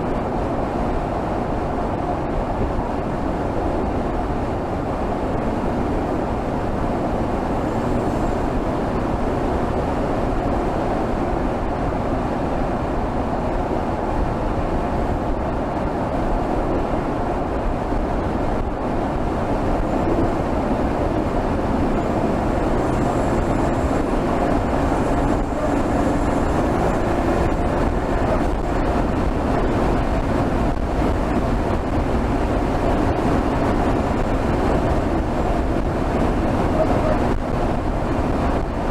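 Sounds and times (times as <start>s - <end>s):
car engine running steadily: 0.0s - 38.9s
dense rush of noise: 0.0s - 38.9s.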